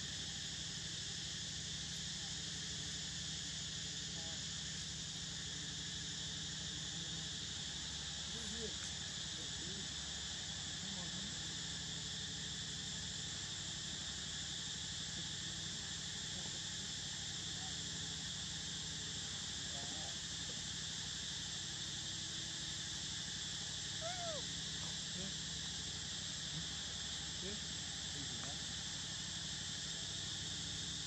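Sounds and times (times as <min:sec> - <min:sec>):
insects buzzing: 0:00.0 - 0:31.0.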